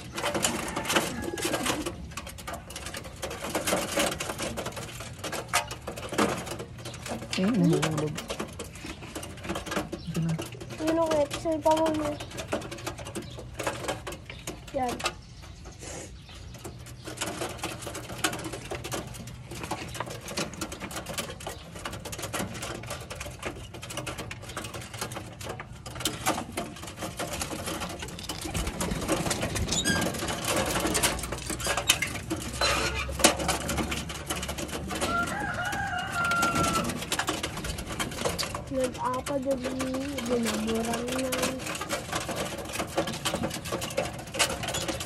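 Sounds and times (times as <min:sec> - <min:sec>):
clicking and rustling: 0:00.0 - 0:45.0.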